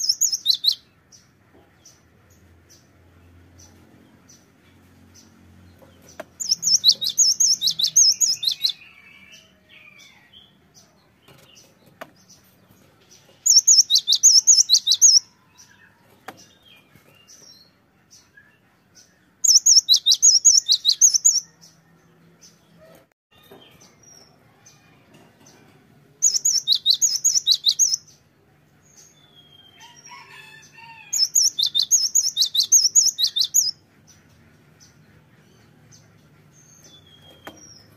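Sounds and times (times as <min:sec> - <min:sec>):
soft bird calls: 0:00.0 - 0:37.9.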